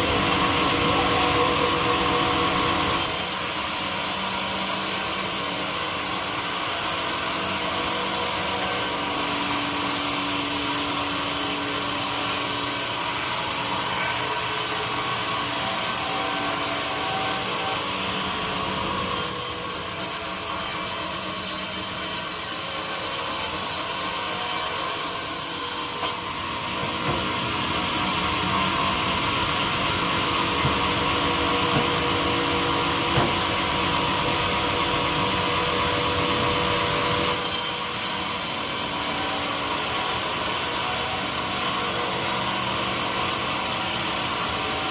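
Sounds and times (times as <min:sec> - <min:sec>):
power tool working wood: 0:00.0 - 0:44.9.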